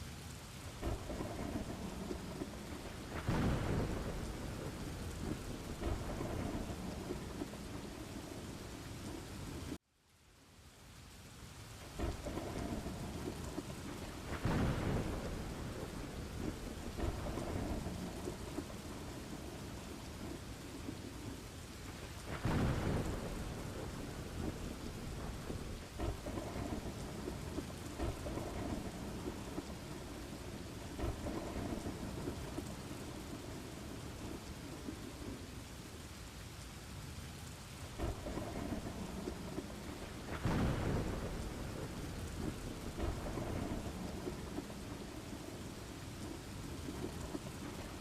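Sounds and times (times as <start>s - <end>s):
steady rain: 0.0s - 48.0s
rolling thunder: 0.7s - 9.8s, 12.0s - 35.5s, 37.9s - 48.0s.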